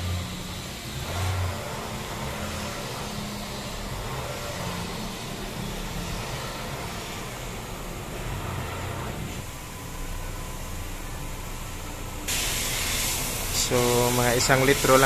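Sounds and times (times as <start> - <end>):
low engine-like drone: 0.0 - 14.8
continuous noisy background: 0.0 - 15.0.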